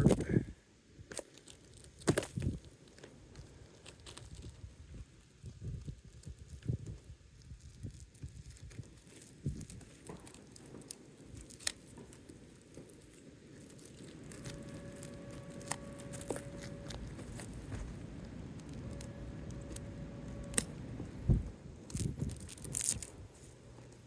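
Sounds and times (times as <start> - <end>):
faint steady hum: 0.0 - 24.0
roof shingle scraping and crinkling: 1.1 - 24.0.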